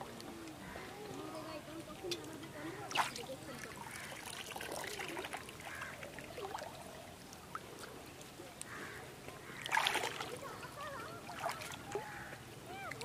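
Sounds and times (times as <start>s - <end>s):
water splashing and dripping: 1.8s - 13.0s.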